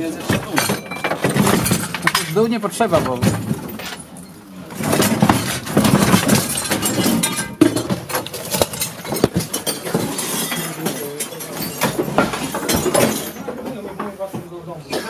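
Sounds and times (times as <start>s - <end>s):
broken glass clinking: 0.0s - 13.6s
furniture panels banging: 0.0s - 14.4s.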